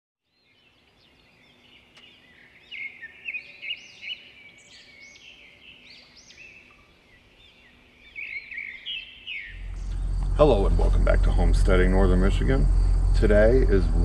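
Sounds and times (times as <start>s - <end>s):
faint outdoor background: 0.2s - 14.0s
songbirds chirping and warbling: 0.2s - 14.0s.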